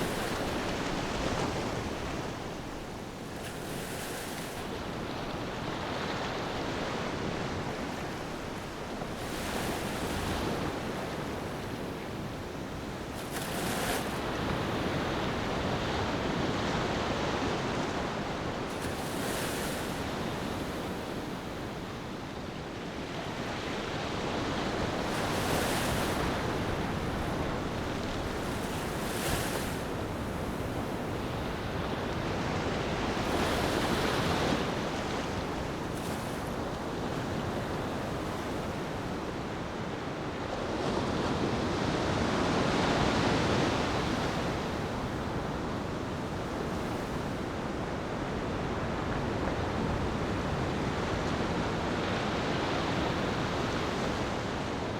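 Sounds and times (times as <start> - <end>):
ocean waves breaking on beach: 0.0 - 54.9.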